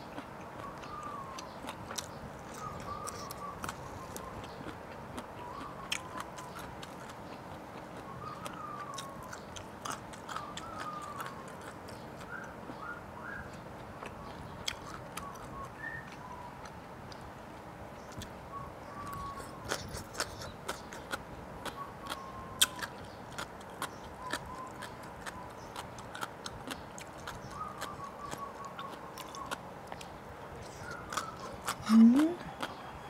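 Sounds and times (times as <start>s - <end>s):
wet chewing and smacking: 0.0s - 17.3s, 19.0s - 32.9s.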